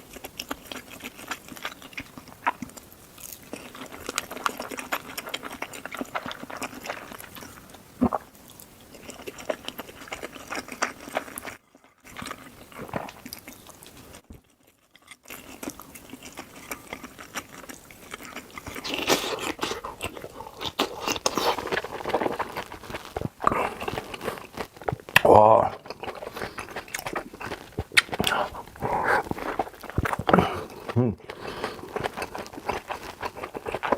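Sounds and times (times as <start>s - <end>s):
person chewing and crunching: 0.0s - 33.9s.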